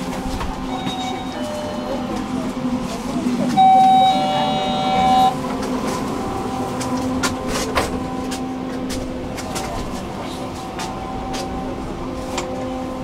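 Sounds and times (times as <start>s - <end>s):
tram electric drive hum: 0.0s - 13.0s.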